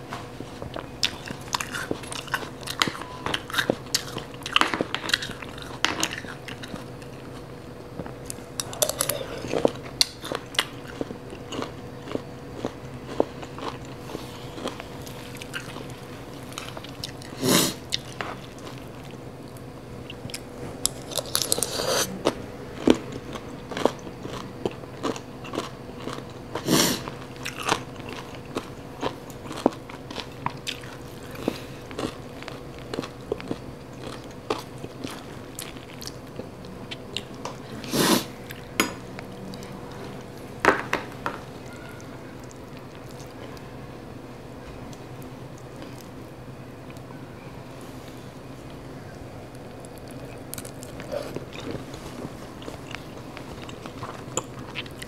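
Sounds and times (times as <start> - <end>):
chewing and crunching salad: 0.0 - 47.2, 48.0 - 55.0.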